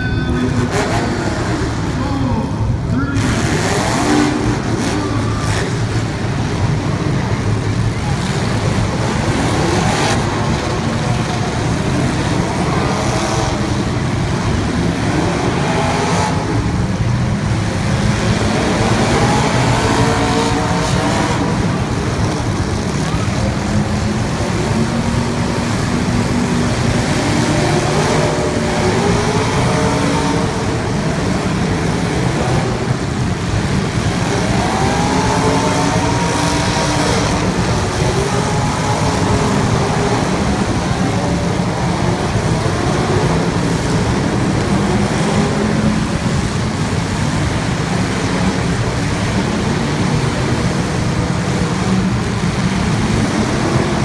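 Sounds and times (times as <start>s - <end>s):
race car engines revving: 0.0s - 54.0s
steady loud noise: 0.0s - 54.0s.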